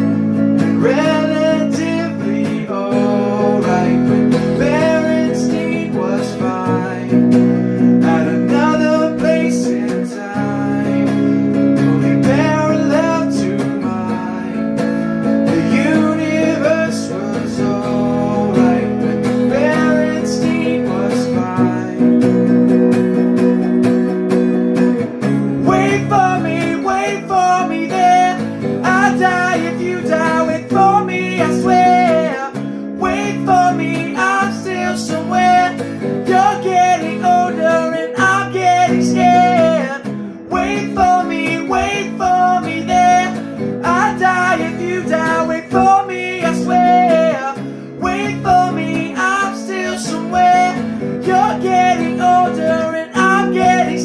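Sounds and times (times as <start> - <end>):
person singing: 0.0 - 22.6, 25.4 - 54.0
acoustic guitar strumming chords: 0.0 - 54.0.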